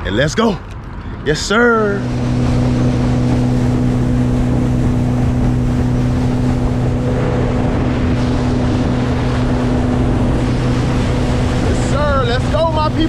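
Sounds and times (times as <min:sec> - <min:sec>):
boat motor running: 0:00.0 - 0:13.0
water noise: 0:00.0 - 0:13.0
wind noise: 0:00.0 - 0:13.0.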